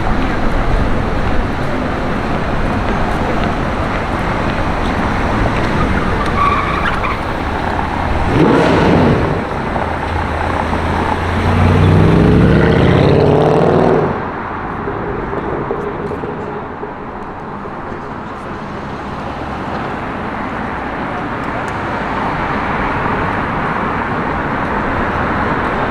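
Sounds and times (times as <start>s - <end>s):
traffic noise: 0.0s - 25.9s
vehicle passing: 0.0s - 25.9s
car engine accelerating past: 2.0s - 25.9s.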